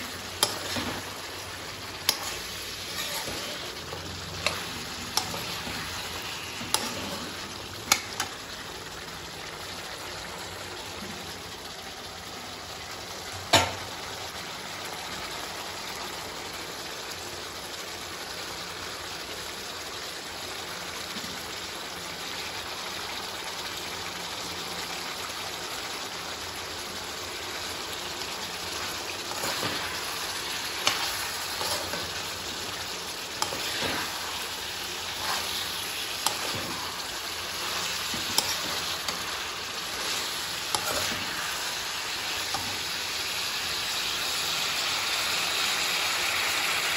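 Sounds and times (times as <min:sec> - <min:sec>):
curry sizzling in a pan: 0:00.0 - 0:46.9.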